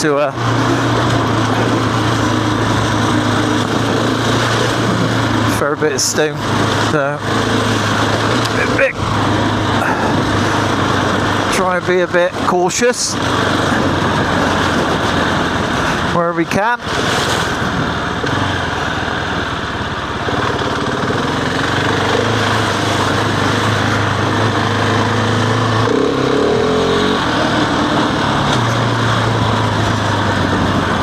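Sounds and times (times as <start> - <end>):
motorcycle engine running: 0.0 - 31.0
steady rushing noise: 0.0 - 31.0.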